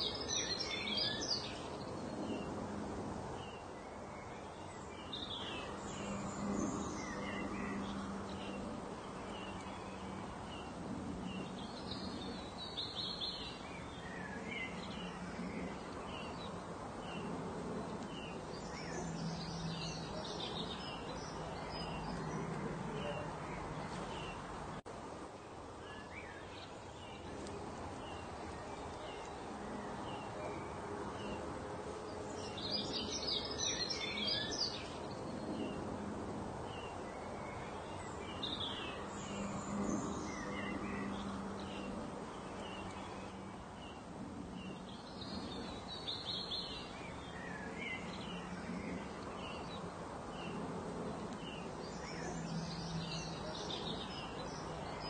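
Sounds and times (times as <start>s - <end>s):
small birds chirping: 0.0s - 2.6s, 3.2s - 24.8s, 25.6s - 36.0s, 36.6s - 55.0s
steady background hiss: 0.0s - 55.0s.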